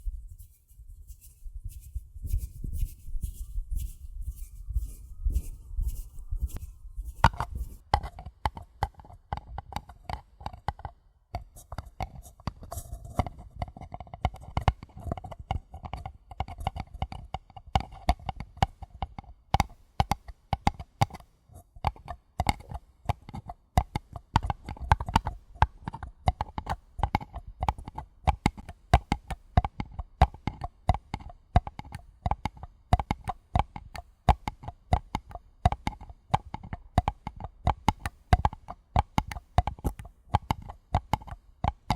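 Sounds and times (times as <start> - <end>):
tapping on a paper cup: 4.8 - 41.9.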